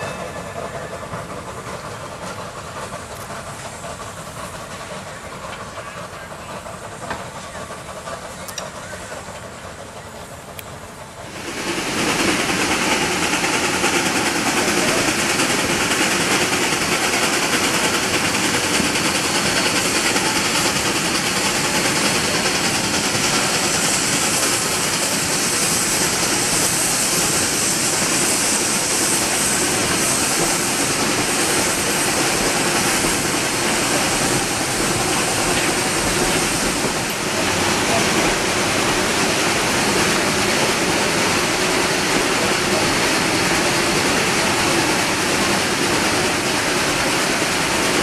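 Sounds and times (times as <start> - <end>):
train rushing: 0.0 - 48.0.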